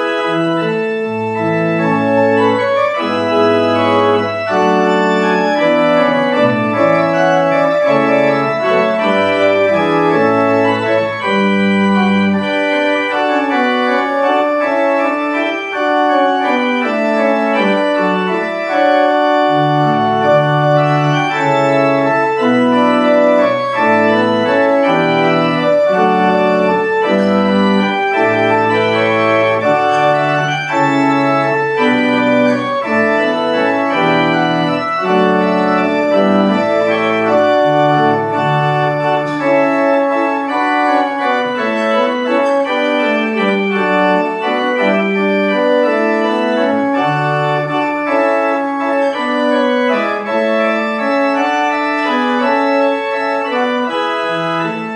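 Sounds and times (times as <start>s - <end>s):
church organ chords: 0.0s - 54.9s.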